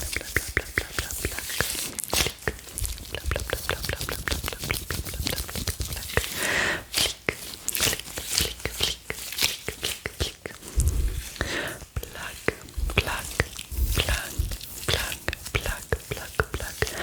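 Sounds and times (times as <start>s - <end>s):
wet mouth clicks and pops: 0.0s - 6.4s, 7.0s - 17.0s
gloved hands rustling: 0.0s - 17.0s.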